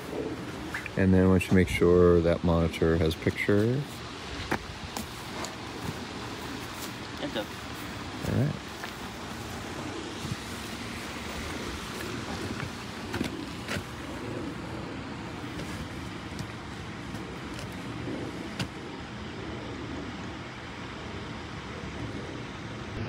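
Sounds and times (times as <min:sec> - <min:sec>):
constant hiss and rumble: 0:00.0 - 0:23.0.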